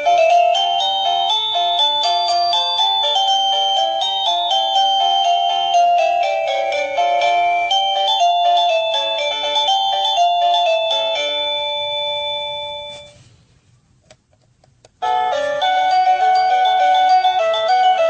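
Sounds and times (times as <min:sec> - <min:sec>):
doorbell chime melody: 0:00.0 - 0:13.2, 0:15.0 - 0:18.0.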